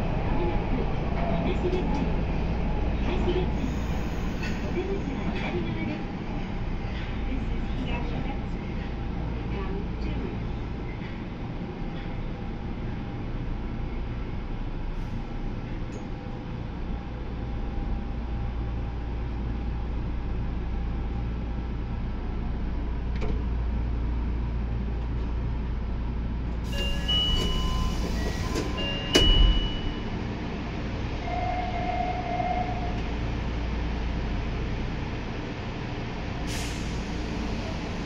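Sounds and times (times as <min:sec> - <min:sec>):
subway train rumble: 0:00.0 - 0:38.0.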